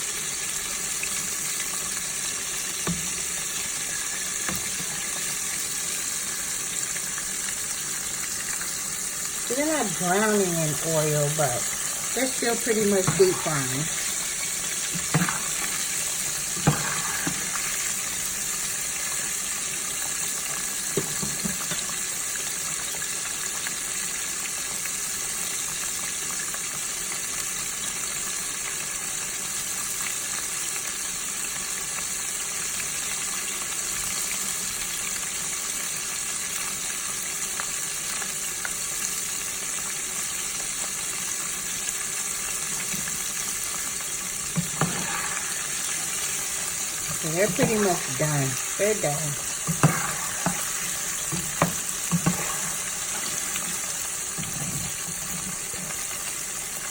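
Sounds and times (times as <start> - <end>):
shrimp sizzling in hot oil: 0.0 - 56.9.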